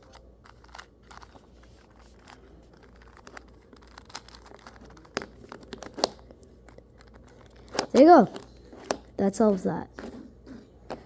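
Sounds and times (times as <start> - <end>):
faint plastic clicks of puzzle cube: 0.0 - 9.2.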